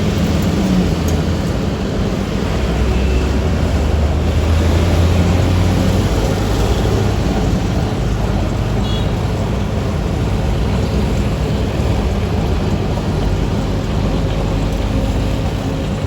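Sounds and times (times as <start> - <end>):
road-paving machinery engine rumble: 0.0 - 16.0.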